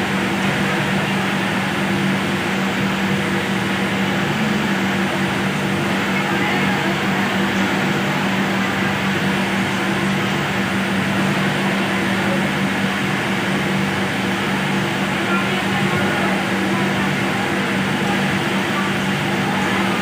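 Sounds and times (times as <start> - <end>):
industrial sewing machines running: 0.0 - 20.0.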